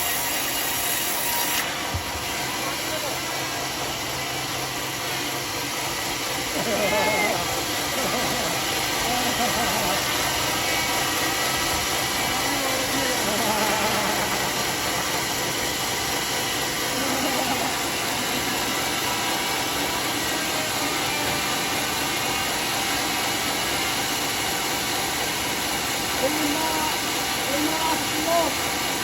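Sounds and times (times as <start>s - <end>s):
sawmill running: 0.0s - 29.0s.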